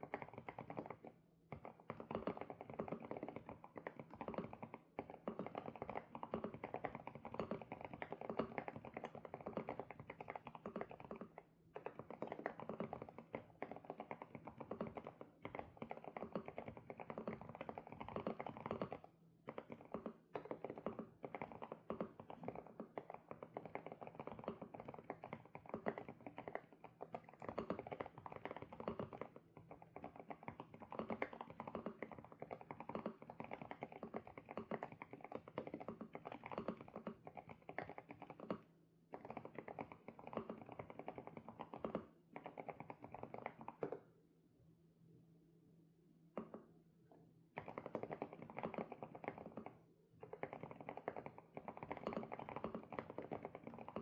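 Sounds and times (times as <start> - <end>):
fast typing on mechanical keyboard: 0.0 - 38.6, 39.2 - 43.9, 47.6 - 54.0.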